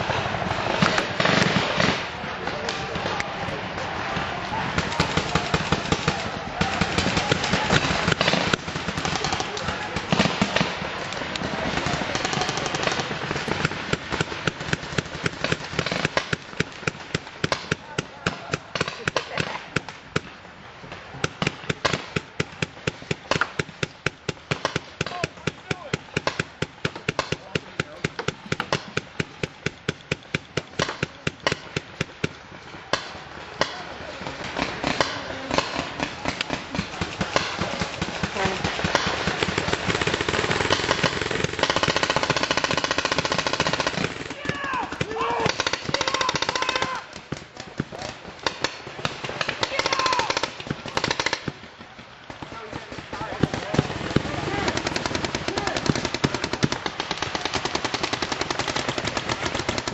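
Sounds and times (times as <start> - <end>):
paintball markers firing: 4.1 - 20.3, 21.2 - 59.9.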